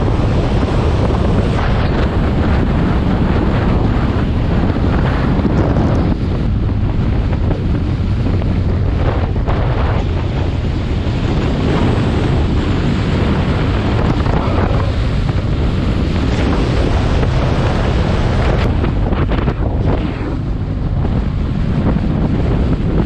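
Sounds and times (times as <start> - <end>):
motorcycle engine: 0.0 - 23.0
road noise: 0.0 - 23.0
wind rushing over microphone: 0.0 - 23.0.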